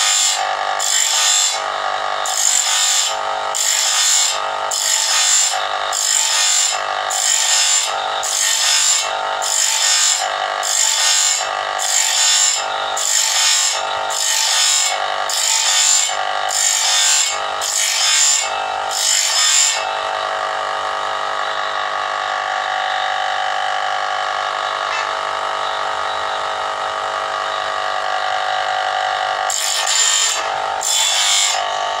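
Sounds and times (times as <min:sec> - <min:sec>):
grinding motor whine: 0:00.0 - 0:32.0
grinding wheel rasping saw teeth: 0:00.0 - 0:32.0.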